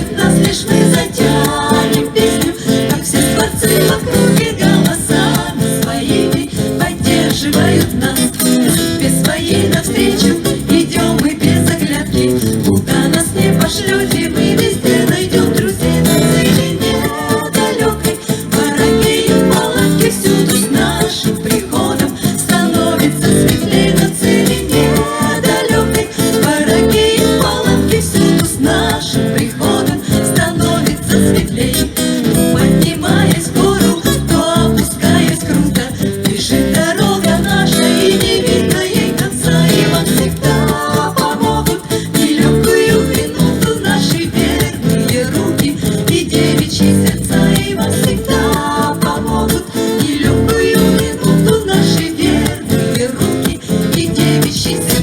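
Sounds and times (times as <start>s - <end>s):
acoustic guitar: 0.0s - 55.0s
person singing: 0.0s - 55.0s.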